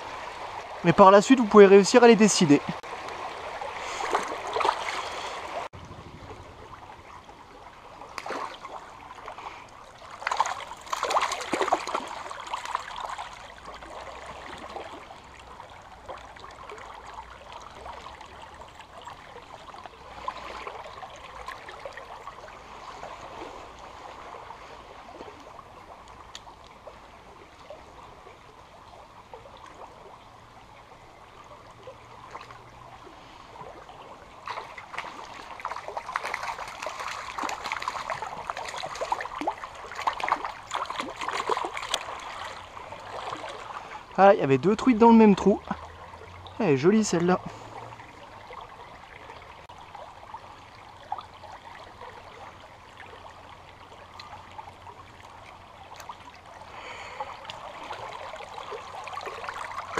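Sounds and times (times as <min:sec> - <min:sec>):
water splashing: 0:00.0 - 0:28.3, 0:31.1 - 0:59.9
river water trickling over stones: 0:00.0 - 0:59.9.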